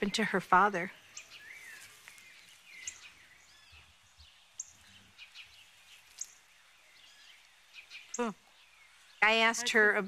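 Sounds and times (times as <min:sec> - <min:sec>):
quiet outdoor noise: 0:00.0 - 0:10.0
small birds chirping: 0:00.0 - 0:10.0.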